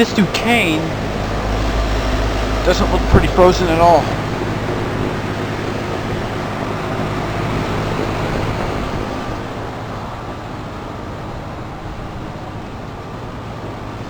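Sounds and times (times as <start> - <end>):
heat pump humming: 0.0 - 14.0.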